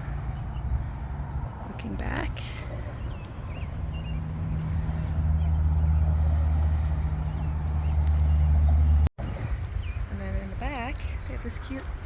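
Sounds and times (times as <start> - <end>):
traffic rumble overhead: 0.0 - 12.0.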